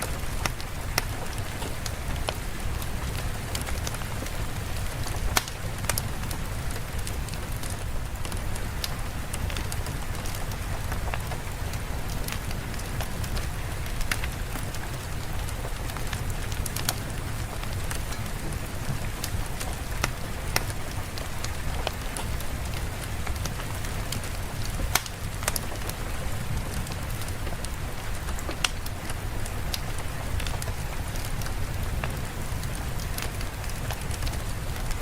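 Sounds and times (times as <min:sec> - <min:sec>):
sharp crackles and ticks: 0:00.0 - 0:35.0
steady rain: 0:00.0 - 0:35.0.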